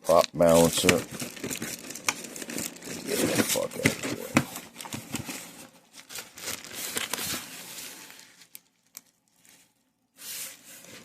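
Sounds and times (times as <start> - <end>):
packaging rustling and crinkling: 0.1 - 11.0.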